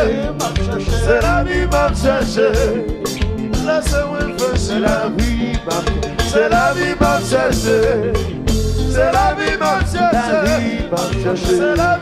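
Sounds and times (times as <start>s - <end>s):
drum beat and bass: 0.0s - 12.0s
man singing: 0.0s - 12.0s.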